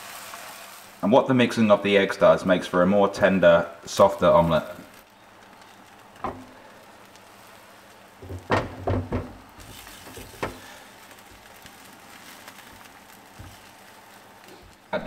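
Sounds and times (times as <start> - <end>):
eggs sizzling: 0.0 - 15.0.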